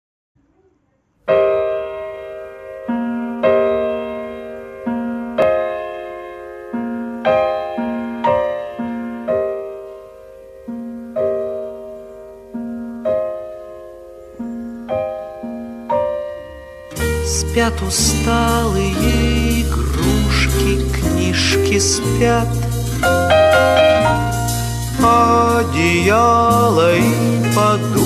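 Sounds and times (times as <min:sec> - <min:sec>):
solo piano melody: 0:01.2 - 0:28.0.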